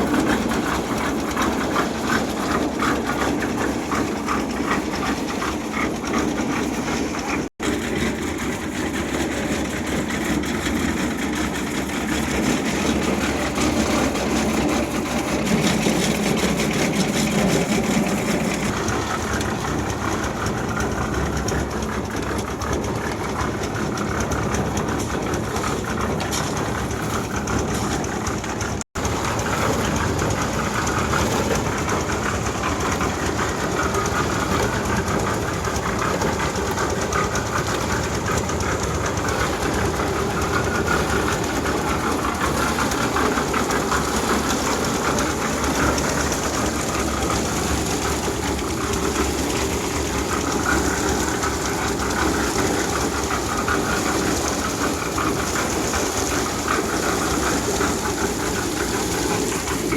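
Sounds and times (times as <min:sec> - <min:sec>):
machine engine running: 0:00.0 - 0:59.9.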